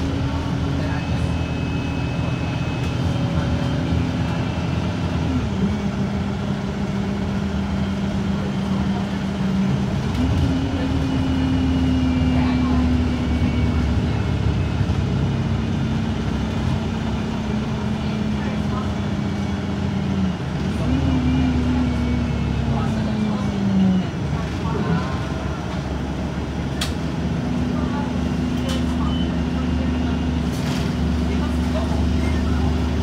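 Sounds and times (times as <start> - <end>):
bus diesel engine running: 0.0 - 33.0.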